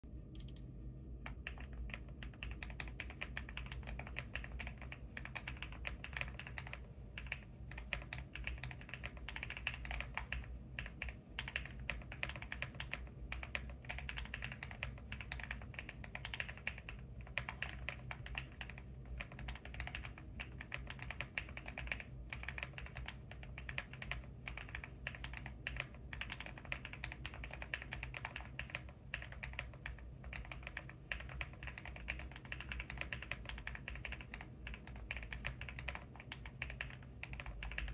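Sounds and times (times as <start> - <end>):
mechanical keyboard typing: 1.3 - 37.9.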